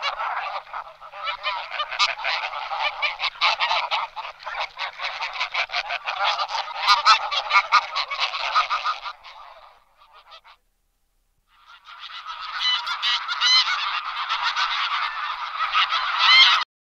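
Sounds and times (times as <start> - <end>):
geese calling: 0.0 - 10.6, 11.5 - 16.6.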